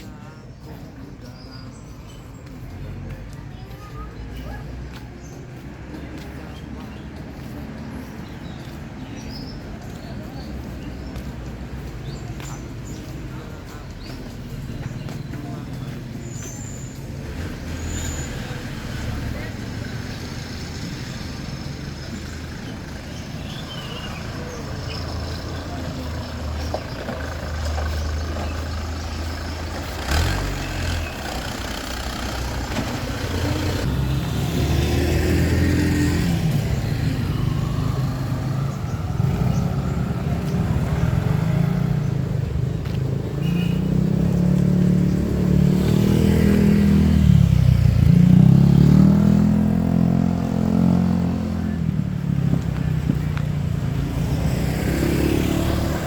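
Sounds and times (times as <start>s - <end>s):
vehicle engines revving and passing: 0.0s - 56.0s.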